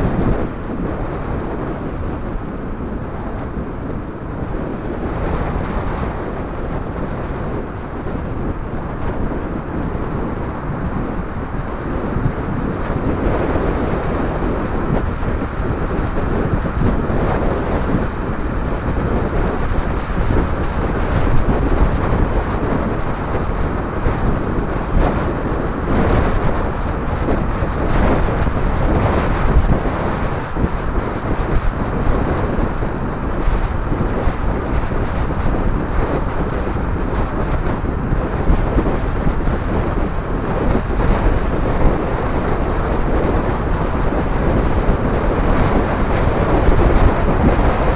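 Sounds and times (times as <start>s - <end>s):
surrounding traffic noise: 0.0s - 47.9s
wind on microphone: 0.0s - 47.9s.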